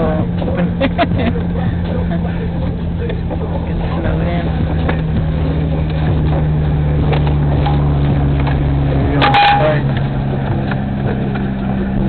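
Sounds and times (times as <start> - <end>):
car engine hum inside cabin: 0.0 - 12.0.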